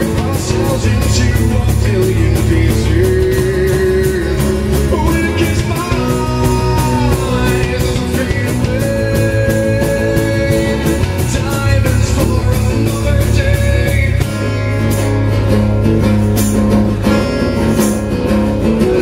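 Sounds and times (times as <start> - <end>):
man singing: 0.0 - 15.6
guitars strummed: 0.0 - 19.0.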